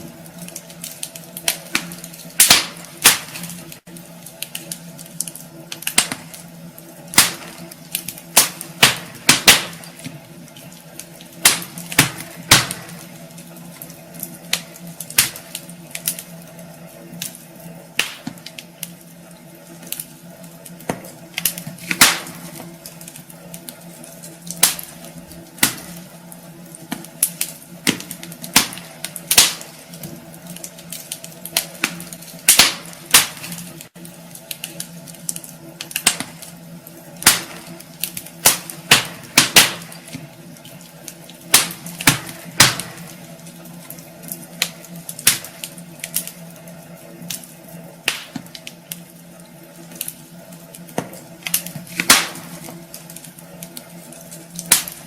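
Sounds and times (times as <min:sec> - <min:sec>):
logs crackling and popping: 0:00.0 - 0:55.0.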